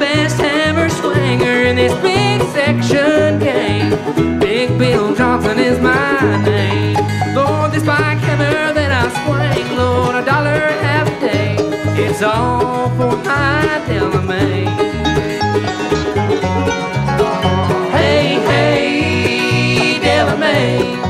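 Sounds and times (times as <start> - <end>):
bluegrass band playing: 0.0 - 21.0.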